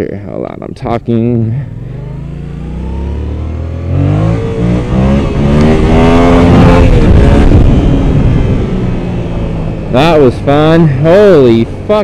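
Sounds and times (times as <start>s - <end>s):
motorcycle engine revving: 1.6s - 12.0s.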